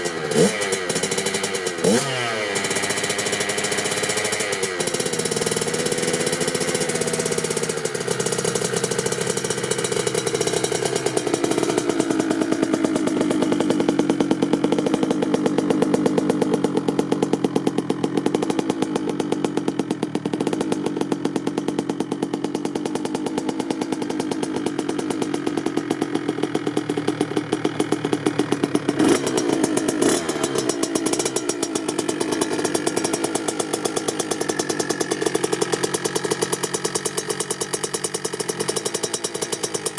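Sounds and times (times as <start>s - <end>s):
two-stroke engine at low revs: 0.0s - 39.9s.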